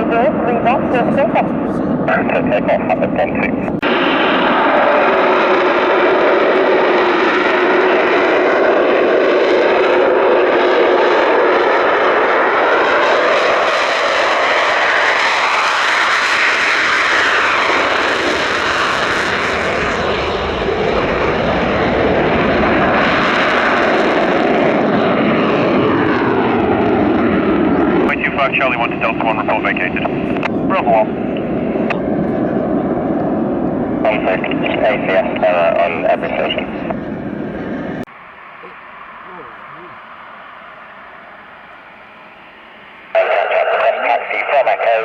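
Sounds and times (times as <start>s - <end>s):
jet engines running: 0.0s - 45.0s
whine sweeping in pitch: 3.5s - 43.3s.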